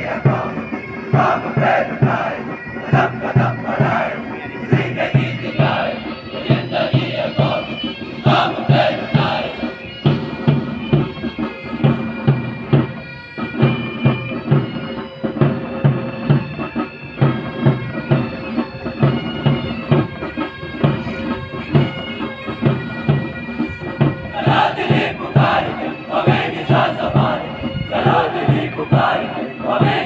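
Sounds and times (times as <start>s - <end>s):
regular drumbeat: 0.0s - 22.0s, 22.6s - 30.0s
bagpipes playing a march: 0.0s - 30.0s.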